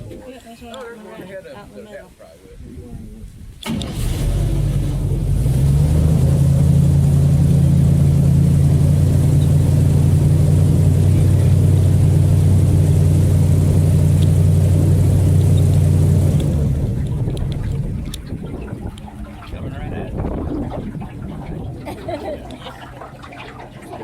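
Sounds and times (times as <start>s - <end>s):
boat engine low drone: 3.9s - 24.0s.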